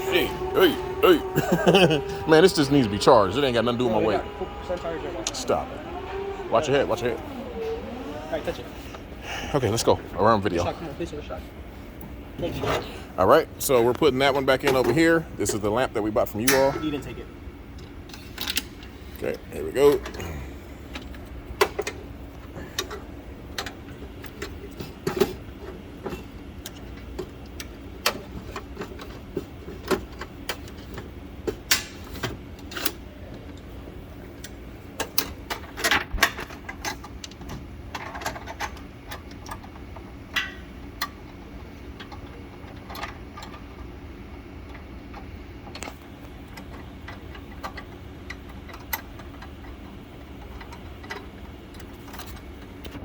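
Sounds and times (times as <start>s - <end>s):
projectors humming: 0.0s - 53.0s.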